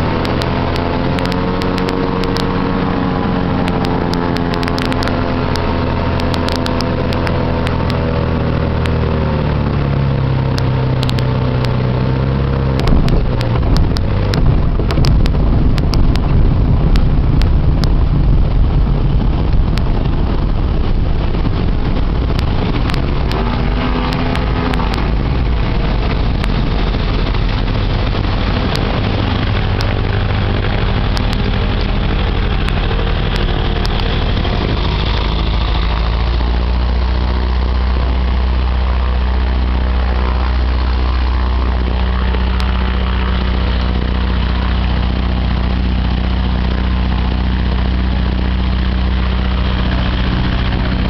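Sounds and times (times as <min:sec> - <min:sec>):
propeller engine running: 0:00.0 - 0:51.0
water rushing along hull: 0:00.0 - 0:51.0.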